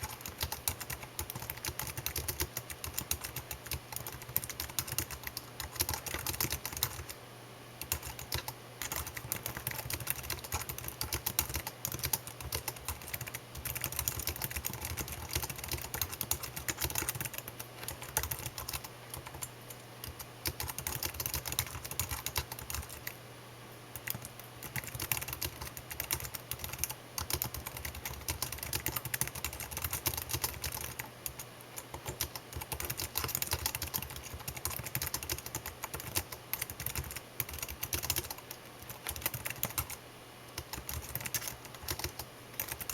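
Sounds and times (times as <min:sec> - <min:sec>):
typing on computer keyboard: 0:00.0 - 0:07.2, 0:07.8 - 0:23.2, 0:24.0 - 0:42.9.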